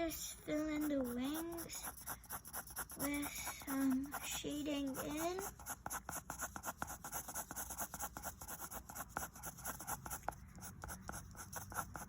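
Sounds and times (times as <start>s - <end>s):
drawing tool scratching on paper: 0.0s - 12.0s.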